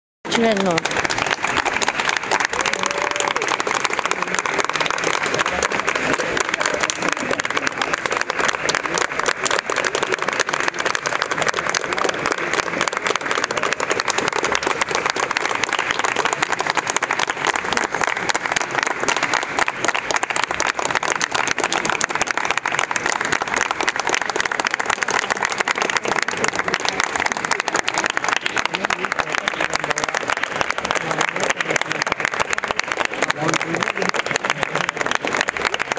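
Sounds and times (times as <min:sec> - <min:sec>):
crowd applauding: 0:00.3 - 0:35.9.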